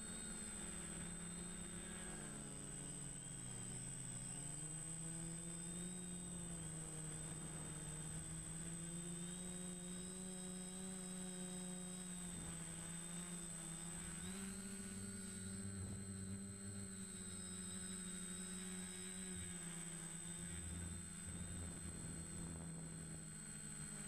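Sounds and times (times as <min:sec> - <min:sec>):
drone propellers droning: 0:00.0 - 0:24.0.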